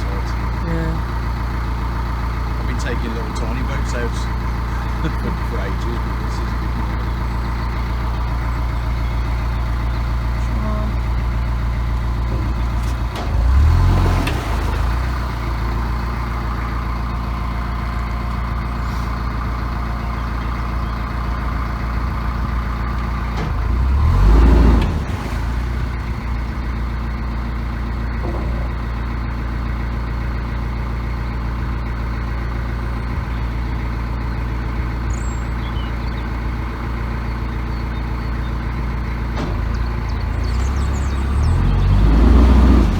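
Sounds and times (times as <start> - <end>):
boat engine humming: 0.0 - 42.9.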